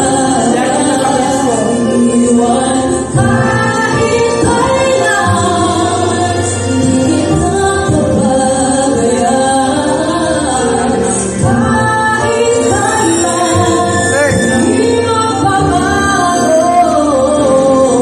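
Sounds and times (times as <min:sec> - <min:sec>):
woman singing into microphone: 0:00.0 - 0:18.0.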